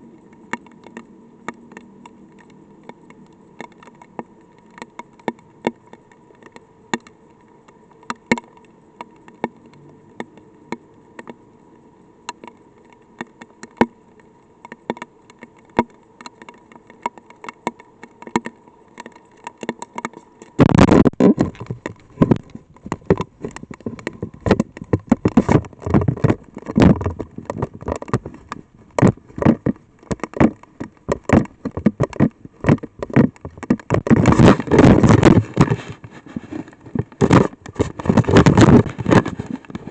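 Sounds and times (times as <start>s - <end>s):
faint steady hum: 0.0s - 39.9s
raindrops ticking on microphone: 0.0s - 39.9s.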